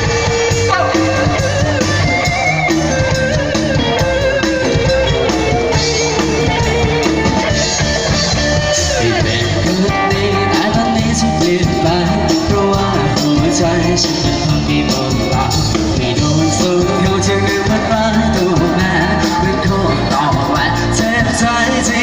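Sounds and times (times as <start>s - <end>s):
amplified pop band music: 0.0s - 22.0s.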